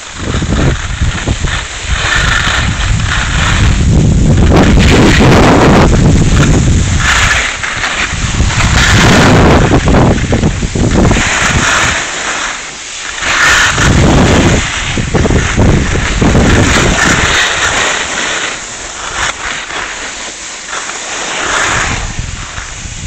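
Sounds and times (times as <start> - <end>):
wind buffeting microphone: 0.0 - 12.2, 13.1 - 19.8, 21.5 - 23.0
ski edges scraping snow: 0.0 - 23.0.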